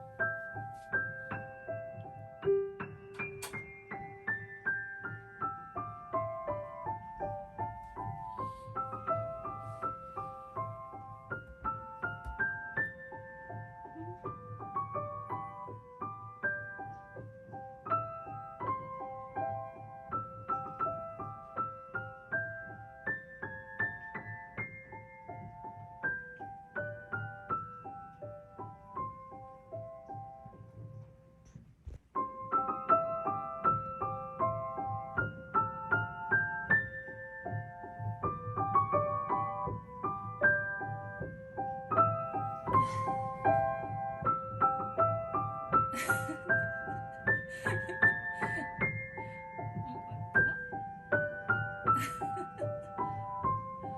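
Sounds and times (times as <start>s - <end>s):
piano melody: 0.0s - 53.9s.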